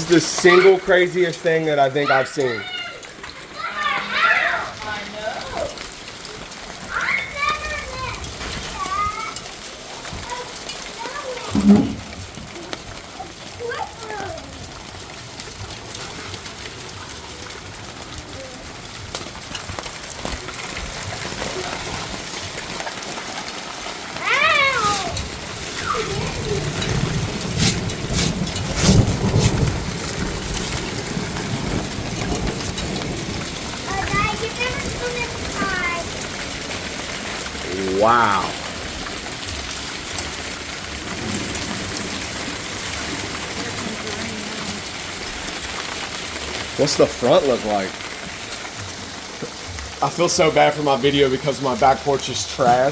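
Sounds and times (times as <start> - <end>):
falling hail and rain: 0.0 - 52.9
hailstones clicking on hard surfaces: 0.0 - 52.9.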